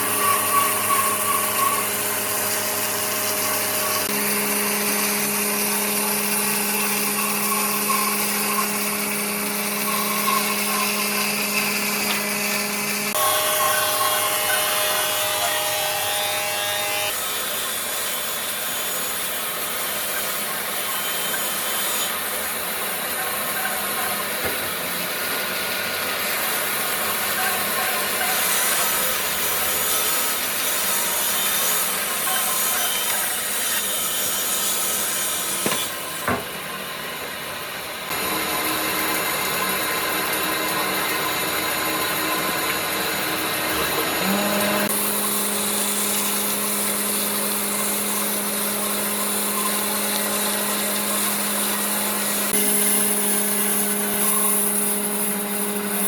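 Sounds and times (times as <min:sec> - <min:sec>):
power tools cutting wood: 0:00.0 - 0:56.0.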